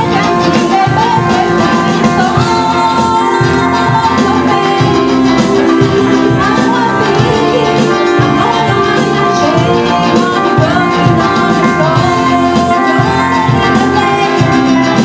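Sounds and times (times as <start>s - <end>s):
electric guitar bent notes: 0.0s - 15.0s
live rock band playing: 0.0s - 15.0s.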